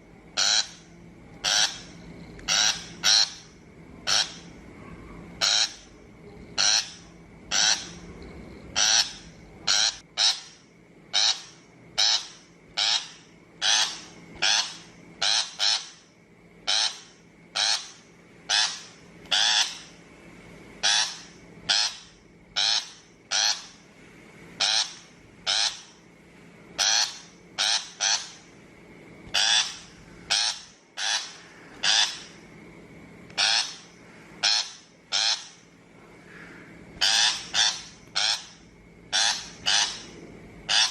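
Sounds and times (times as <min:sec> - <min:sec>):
shrike giving harsh grating calls: 0:00.4 - 0:04.6, 0:05.4 - 0:05.9, 0:06.6 - 0:08.1, 0:08.7 - 0:20.0, 0:20.8 - 0:23.9, 0:24.6 - 0:26.0, 0:26.8 - 0:28.5, 0:29.3 - 0:32.4, 0:33.4 - 0:40.9.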